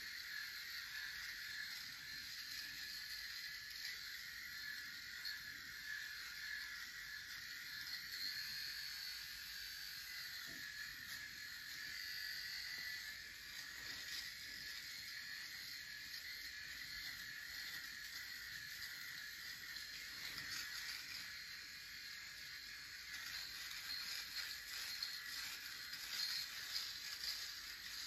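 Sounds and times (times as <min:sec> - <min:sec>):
electric shaver buzzing: 0:00.0 - 0:28.0.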